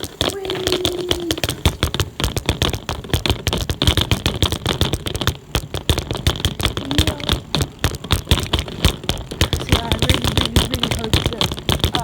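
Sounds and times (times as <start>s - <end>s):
bicycle rattling and knocking: 0.0s - 12.0s.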